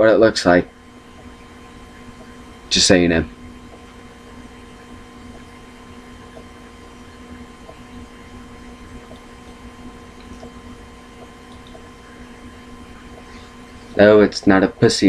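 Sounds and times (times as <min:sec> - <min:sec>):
steady electrical hum: 0:00.0 - 0:15.0
faint scattered ticks: 0:00.4 - 0:15.0.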